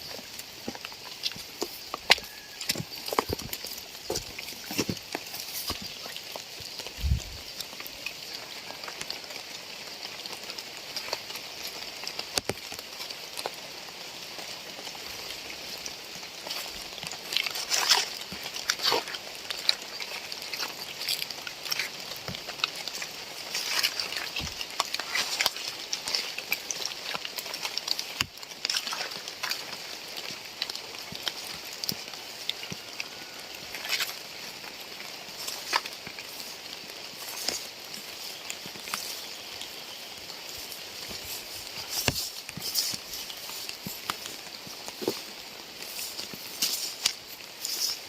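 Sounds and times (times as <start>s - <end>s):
steady rain: 0.0s - 48.0s.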